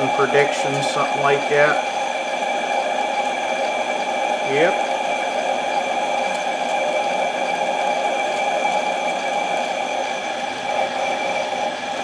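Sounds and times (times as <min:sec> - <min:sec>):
lathe motor whining: 0:00.0 - 0:12.0.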